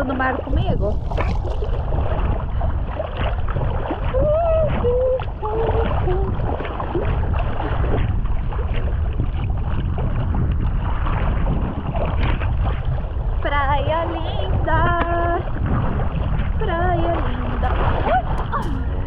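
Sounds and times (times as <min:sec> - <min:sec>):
water sloshing and splashing: 0:00.0 - 0:19.0
wind rumble on microphone: 0:00.0 - 0:19.0.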